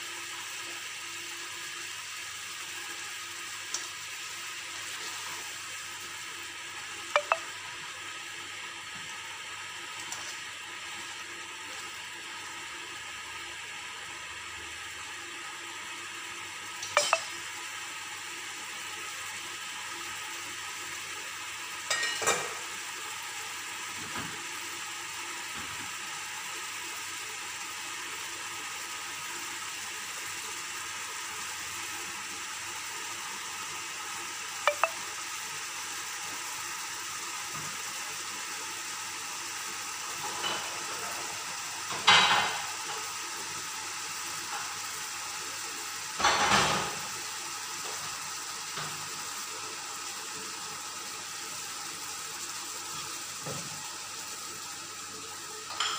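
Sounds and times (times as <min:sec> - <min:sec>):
chicken simmering in frying pan: 0:00.0 - 0:16.8, 0:17.4 - 0:55.7.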